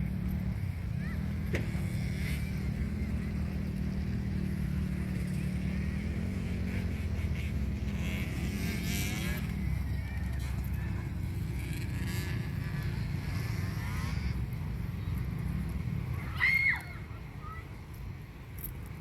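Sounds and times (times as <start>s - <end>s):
vehicle engine humming steadily: 0.0s - 19.0s.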